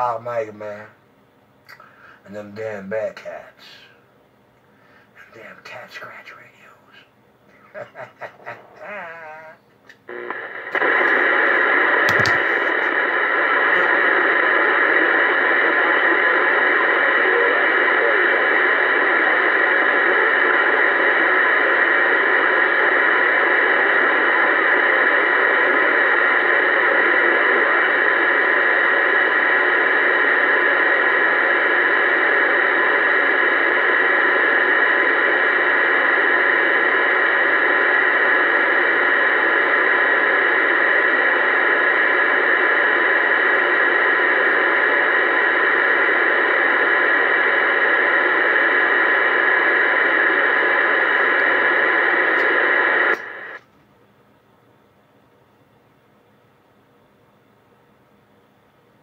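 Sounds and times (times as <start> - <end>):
radio static hiss: 0.0 - 1.0, 1.6 - 53.7.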